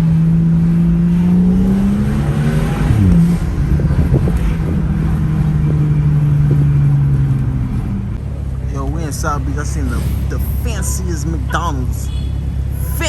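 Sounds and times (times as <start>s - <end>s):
car engine humming: 0.0s - 13.0s
road rumble: 0.0s - 13.0s.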